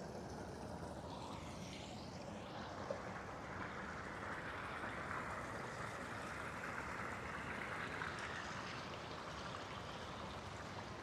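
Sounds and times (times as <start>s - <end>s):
garden waterfall running water: 0.0s - 11.0s.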